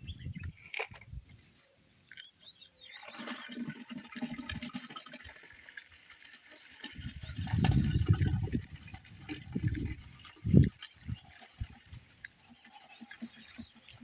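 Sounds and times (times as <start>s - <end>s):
liquid pouring and sloshing: 0.2s - 14.0s.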